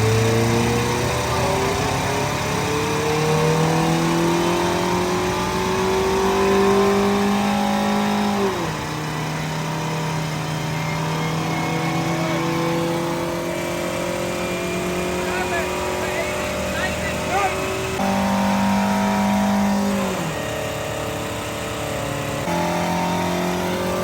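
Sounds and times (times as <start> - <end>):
car engine revving under load: 0.0 - 24.0.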